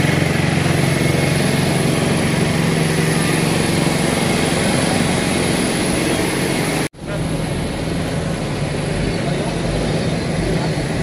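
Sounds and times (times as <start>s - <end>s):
airliner engines droning: 0.0s - 11.0s.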